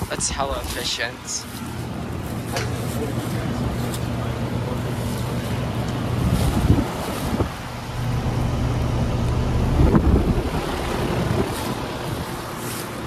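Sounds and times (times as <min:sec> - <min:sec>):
compressor hum: 0:00.0 - 0:13.0
condenser fan whoosh: 0:00.0 - 0:13.0
wind buffeting microphone: 0:01.8 - 0:13.0.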